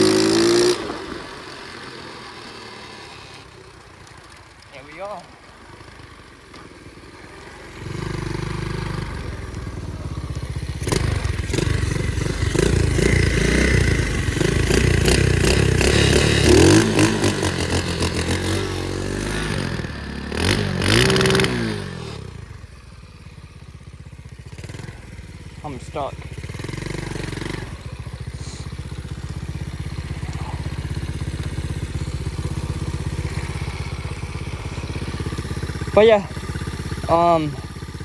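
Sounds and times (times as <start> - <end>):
small motorbike engine revving: 0.0 - 38.0.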